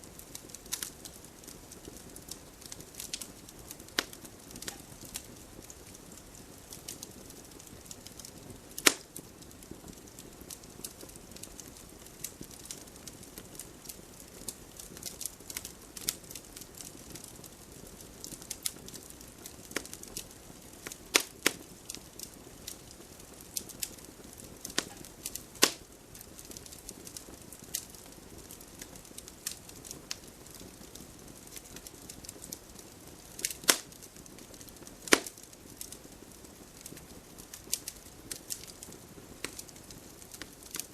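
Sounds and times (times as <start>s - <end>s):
wood fire crackling: 0.0s - 40.9s
loud fire pops: 0.1s - 40.9s.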